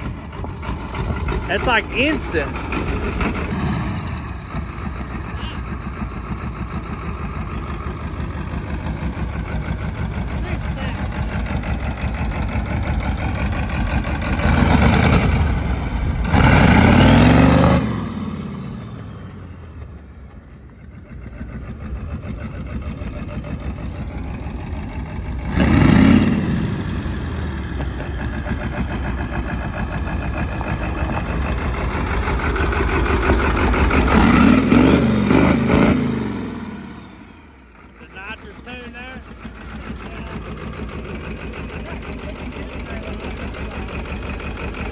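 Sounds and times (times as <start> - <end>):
tractor diesel engine revving: 0.0 - 44.9.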